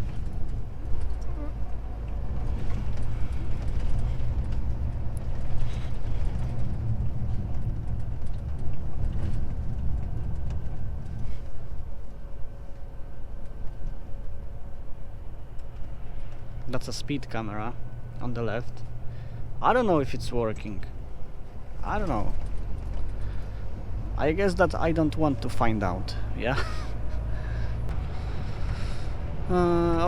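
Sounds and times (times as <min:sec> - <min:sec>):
truck engine rumble: 0:00.0 - 0:30.0.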